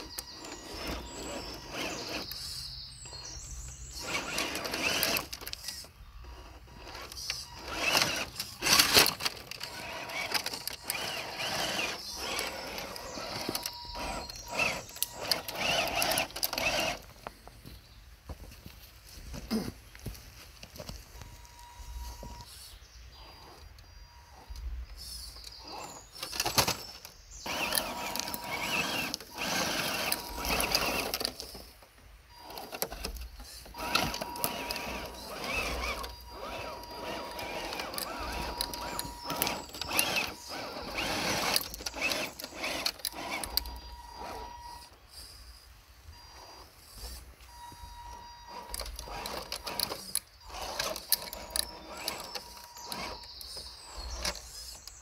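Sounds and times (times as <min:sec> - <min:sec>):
electric motor whining: 0:00.0 - 0:17.1, 0:27.4 - 0:31.7, 0:32.3 - 0:55.0
chassis and tyres clicking: 0:00.0 - 0:17.7, 0:24.6 - 0:44.9, 0:46.3 - 0:55.0.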